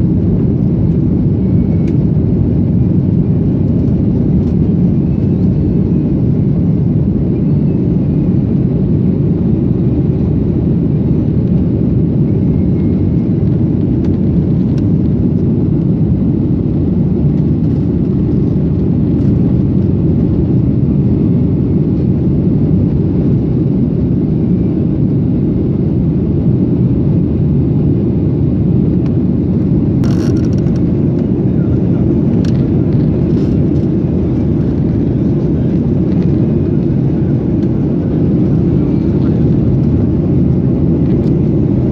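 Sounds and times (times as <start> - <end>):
airliner engines and airflow: 0.0 - 41.9.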